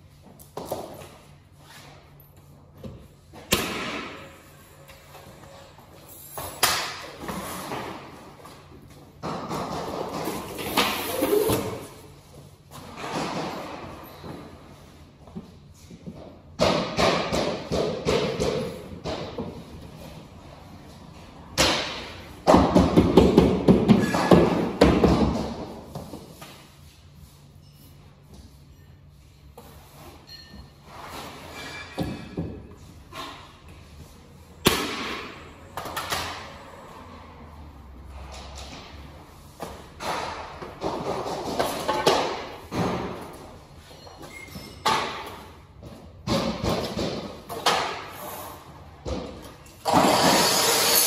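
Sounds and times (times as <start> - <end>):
panels thumping in echoing room: 0.0 - 27.4, 28.2 - 51.0.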